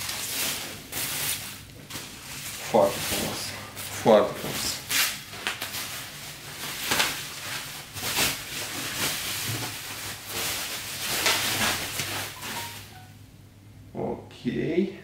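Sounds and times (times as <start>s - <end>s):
bubble wrap rustling and crinkling: 0.0s - 13.1s.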